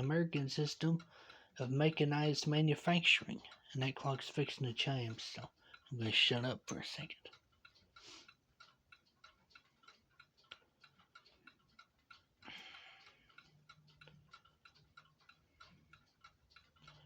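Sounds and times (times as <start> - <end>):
clock ticking: 0.0 - 17.0.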